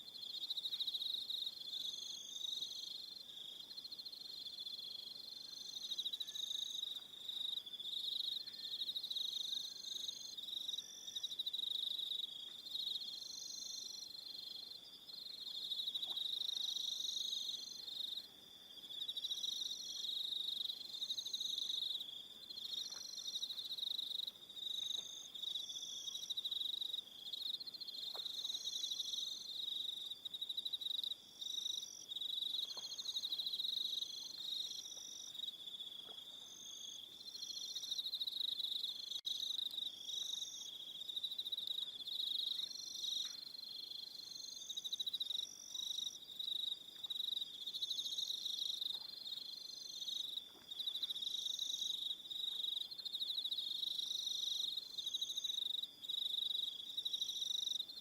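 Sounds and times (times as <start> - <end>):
crickets chirping: 0.0 - 58.0
insects chirping: 0.0 - 58.0.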